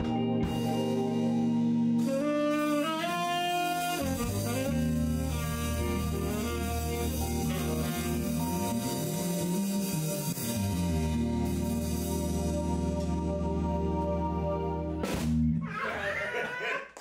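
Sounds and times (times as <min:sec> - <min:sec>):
saxophone melody: 0:00.0 - 0:15.2
electric bass: 0:00.0 - 0:15.7
keyboard: 0:00.0 - 0:16.6.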